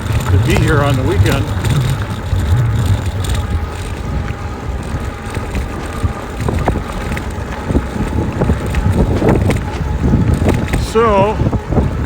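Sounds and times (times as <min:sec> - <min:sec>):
tyre and road noise: 0:00.0 - 0:12.0
wind buffeting microphone: 0:00.0 - 0:12.0.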